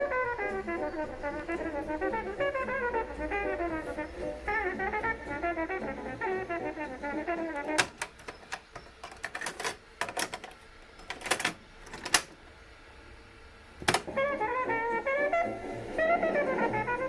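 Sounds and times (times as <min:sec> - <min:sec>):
music from a boom box: 0:00.0 - 0:11.4, 0:13.3 - 0:17.0.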